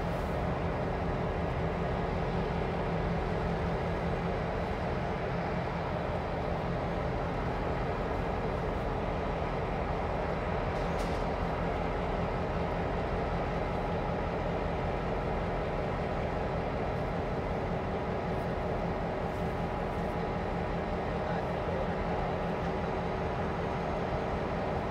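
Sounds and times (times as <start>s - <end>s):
diesel locomotives idling: 0.0s - 24.9s.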